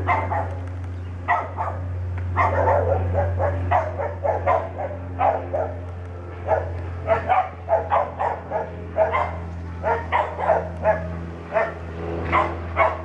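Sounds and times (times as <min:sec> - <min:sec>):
dog barking: 0:00.0 - 0:00.6, 0:01.3 - 0:05.8, 0:06.4 - 0:13.0
light aircraft engine drone: 0:00.0 - 0:13.0.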